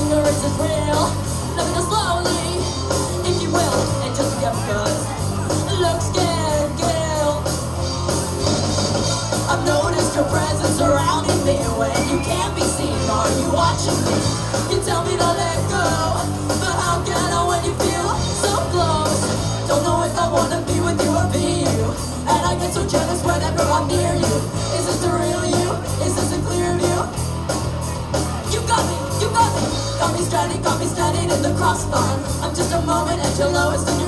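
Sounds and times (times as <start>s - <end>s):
bass line: 0.0s - 34.0s
drum beat with cymbals: 0.0s - 34.0s.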